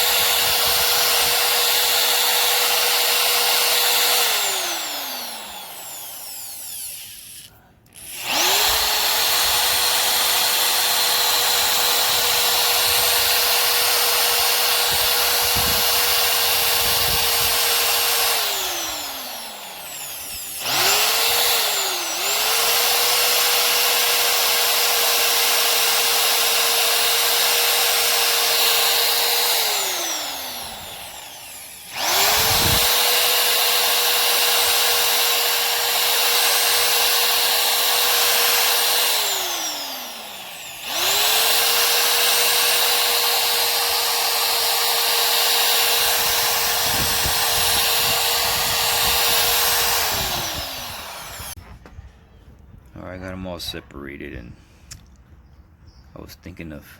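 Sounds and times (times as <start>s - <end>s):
rotary power tool whining: 0.0s - 51.6s.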